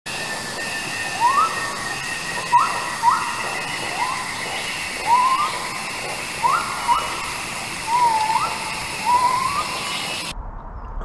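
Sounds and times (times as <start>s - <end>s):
rushing hiss of falling water: 0.1s - 10.3s
insect-like trill: 0.1s - 10.4s
short rising calls: 0.1s - 10.4s.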